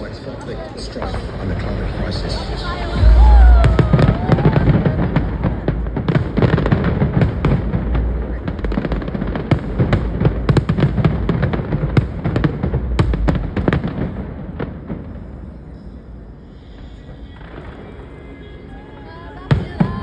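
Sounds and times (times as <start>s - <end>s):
deep fireworks rumble: 0.0s - 20.0s
fireworks bangs and crackles: 0.0s - 20.0s.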